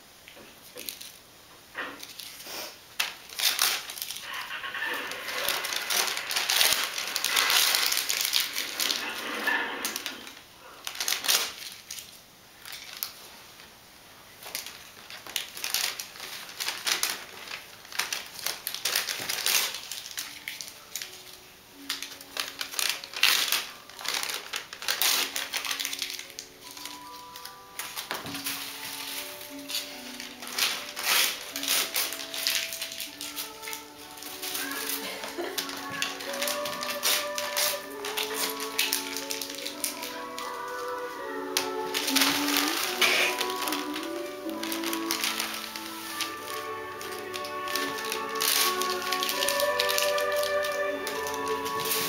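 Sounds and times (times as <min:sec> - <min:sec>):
wrapping paper crinkling and rustling: 0:00.4 - 0:52.0.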